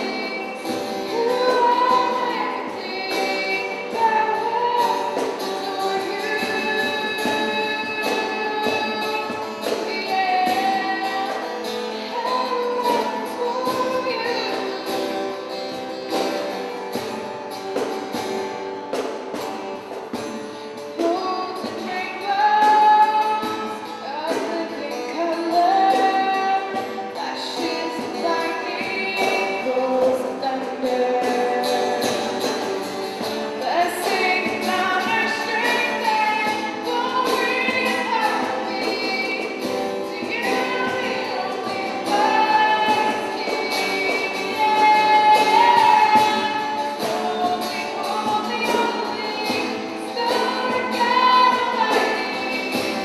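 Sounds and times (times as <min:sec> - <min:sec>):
band with guitar and drums: 0:00.0 - 0:53.0
percussion hits: 0:00.0 - 0:53.0
woman singing: 0:00.0 - 0:53.0.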